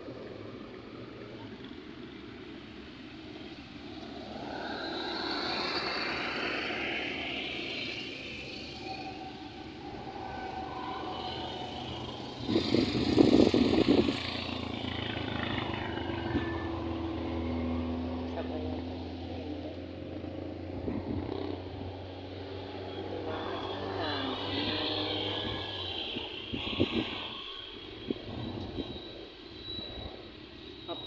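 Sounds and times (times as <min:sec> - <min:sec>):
engine passing: 0:00.0 - 0:31.0.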